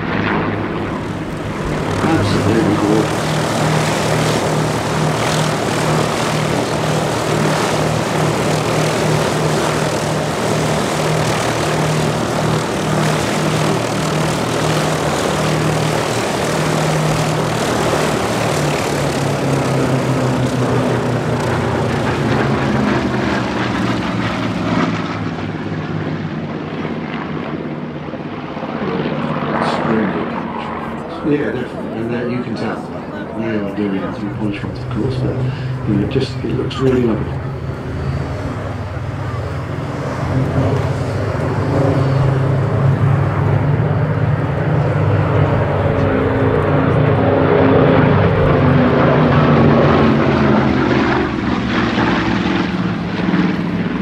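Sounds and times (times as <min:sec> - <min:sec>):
propeller aircraft engine drone: 0:00.0 - 0:54.0.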